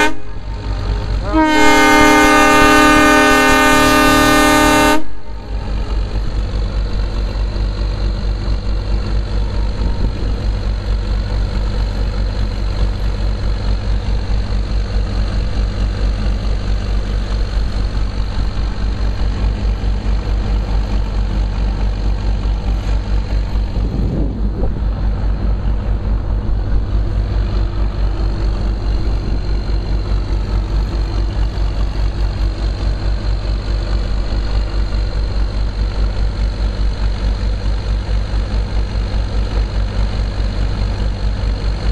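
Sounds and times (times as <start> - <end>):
diesel locomotive engine running: 0.0 - 41.9.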